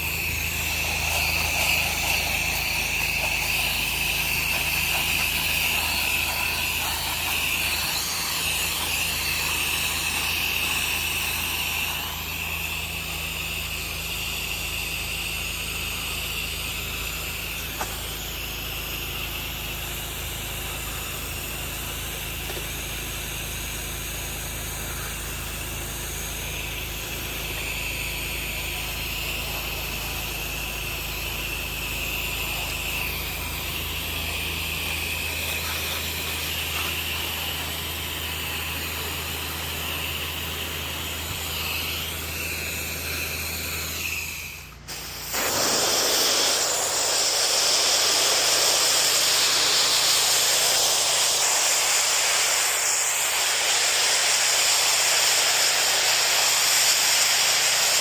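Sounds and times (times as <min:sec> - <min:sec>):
pressure washer motor hum: 0:00.0 - 0:58.0
pressure washer water spray hiss: 0:00.0 - 0:58.0.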